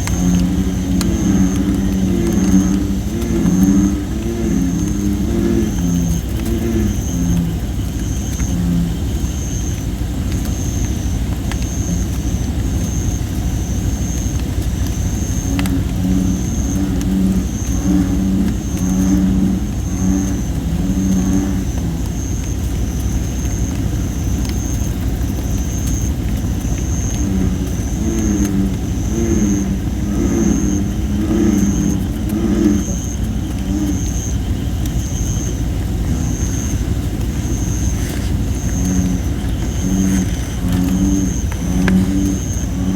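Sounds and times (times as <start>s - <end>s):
bullfrogs calling: 0.0s - 42.9s
campfire crackling: 0.0s - 42.9s.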